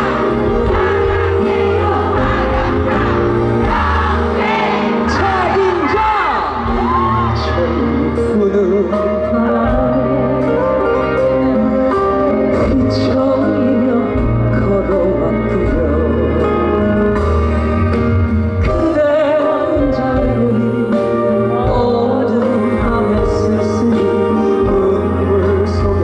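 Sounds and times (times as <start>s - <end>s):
man singing: 0.0s - 4.1s, 5.0s - 26.0s
live band playing: 0.0s - 26.0s.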